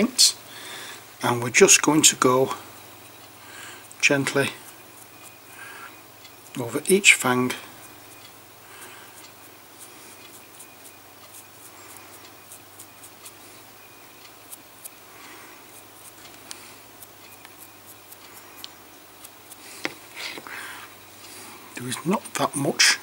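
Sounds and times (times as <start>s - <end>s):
dry brush scratching: 1.2s - 20.5s.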